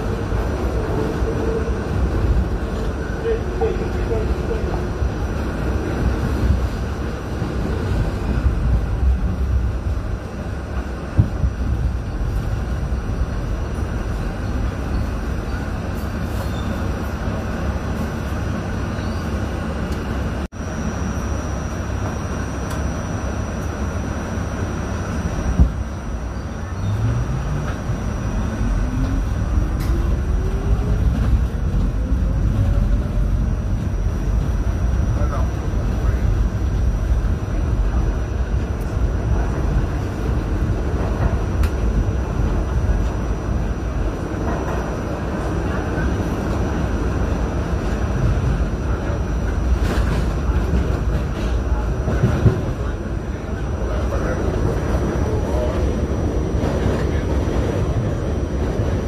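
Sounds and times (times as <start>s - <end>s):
subway train rumbling on rails: 0.0s - 59.0s.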